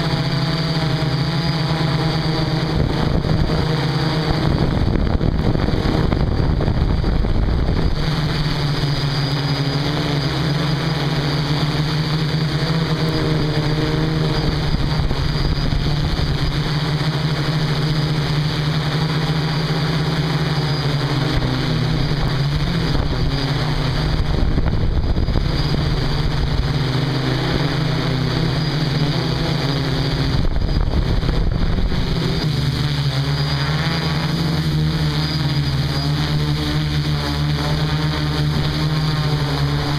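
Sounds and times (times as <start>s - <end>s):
quadcopter motors humming: 0.0s - 39.9s
wind noise on microphone: 0.0s - 39.9s.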